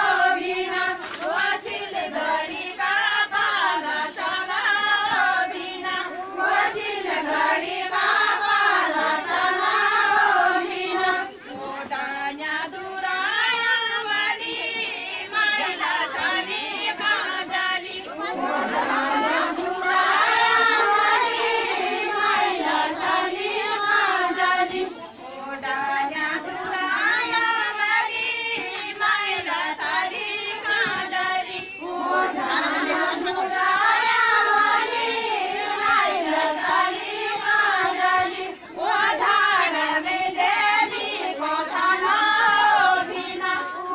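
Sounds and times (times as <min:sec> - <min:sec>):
women singing folk song: 0:00.0 - 0:43.9.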